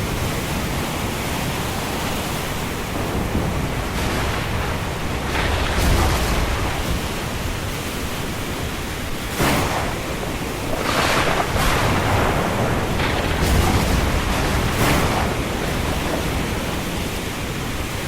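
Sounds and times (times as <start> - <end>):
rain: 0.0 - 18.0
wind: 0.0 - 18.0.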